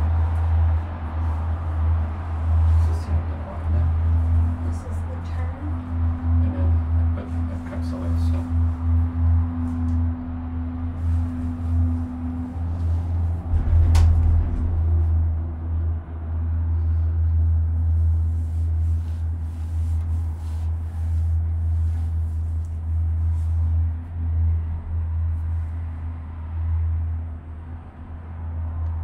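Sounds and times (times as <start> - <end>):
gondola cabin low rumble: 0.0 - 29.0.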